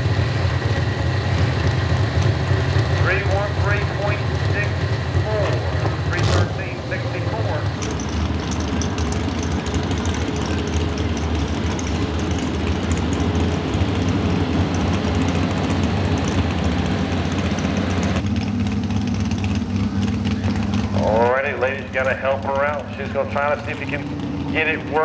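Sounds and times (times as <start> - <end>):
engine idling with loud low rumble: 0.0 - 25.0.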